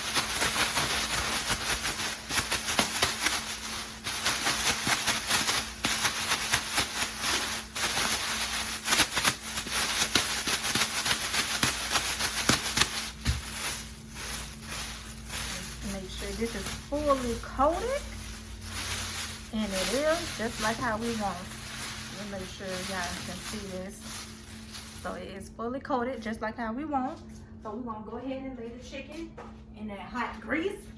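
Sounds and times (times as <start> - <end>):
chicken wings shaken in a bag: 0.0 - 25.2.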